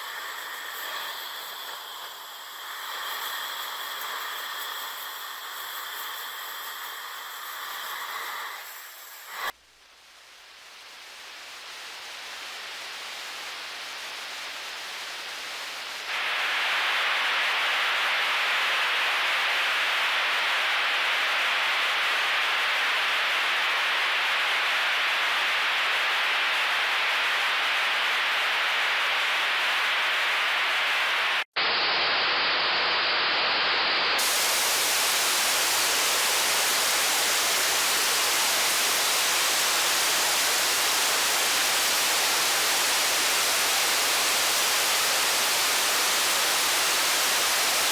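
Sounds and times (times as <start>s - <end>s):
tv static hiss: 0.0s - 47.9s.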